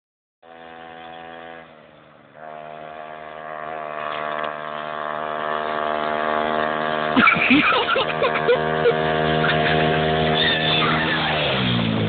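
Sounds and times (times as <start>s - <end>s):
motorbike engine running: 0.4s - 12.0s.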